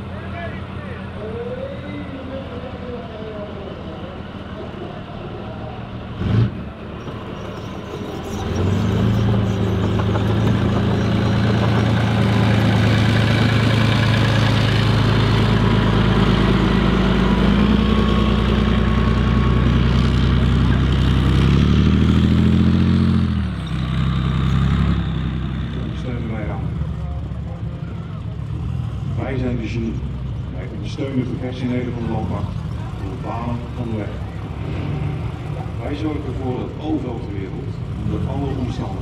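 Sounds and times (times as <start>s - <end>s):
tracked vehicle diesel engine: 0.0s - 39.0s.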